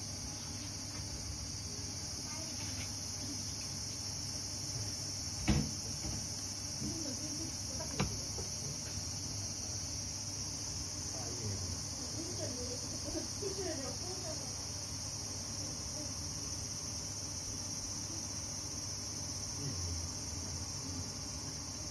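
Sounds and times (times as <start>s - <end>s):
insects chirring: 0.0s - 21.9s.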